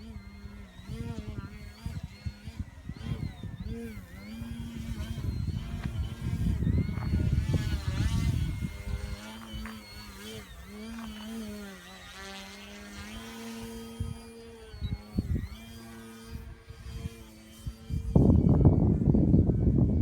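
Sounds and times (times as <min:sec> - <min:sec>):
model plane motor humming: 0:00.0 - 0:20.0
wind rumble on microphone: 0:00.0 - 0:20.0.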